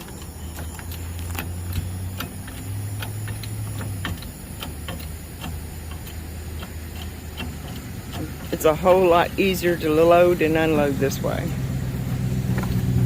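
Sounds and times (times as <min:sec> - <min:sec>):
light metallic clicks and ticks: 0:00.0 - 0:13.0
steady low hum: 0:00.0 - 0:13.0.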